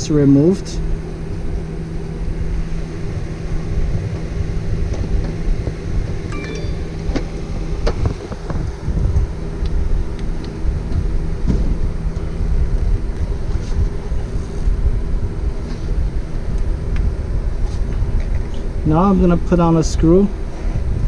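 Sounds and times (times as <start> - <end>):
steady mechanical hum: 0.0 - 21.0
wind rumbling on microphone: 0.6 - 21.0.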